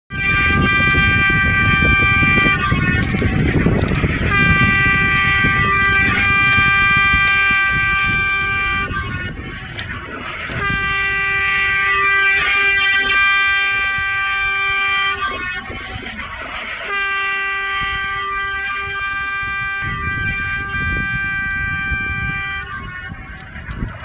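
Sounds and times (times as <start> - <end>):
low rumble: 0.1 - 24.0
train horn blasts: 0.1 - 24.0.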